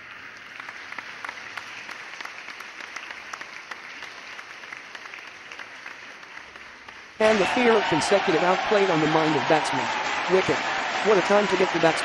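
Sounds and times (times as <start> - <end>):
crowd applause: 0.0 - 12.0.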